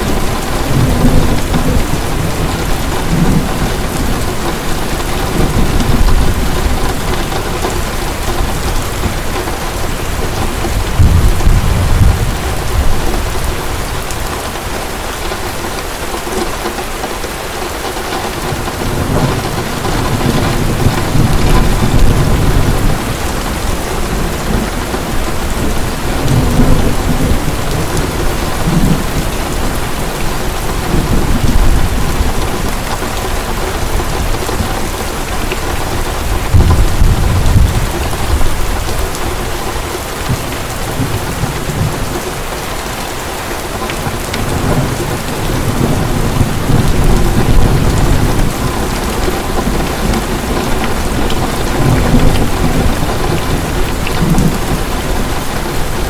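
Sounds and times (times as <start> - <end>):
distant thunder rumbling: 0.0 - 16.7, 17.7 - 42.5, 43.9 - 56.0
heavy rain: 0.0 - 56.0.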